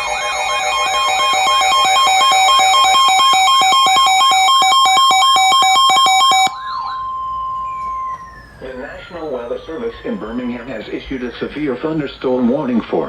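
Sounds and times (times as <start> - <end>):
high beeps: 0.0 - 11.5
steady attention tone: 0.0 - 12.8.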